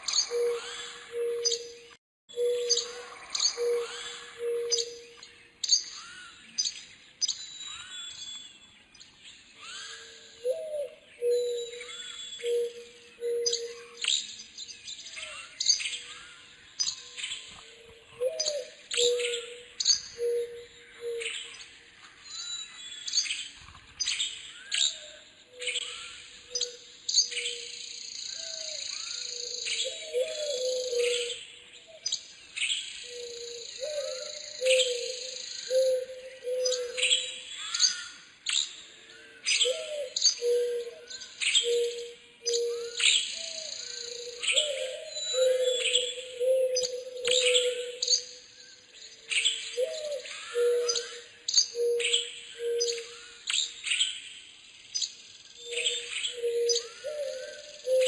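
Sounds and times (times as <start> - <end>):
low repeated bird call: 0.0 - 8.7, 9.5 - 58.0
birds chirping and singing: 0.0 - 58.0.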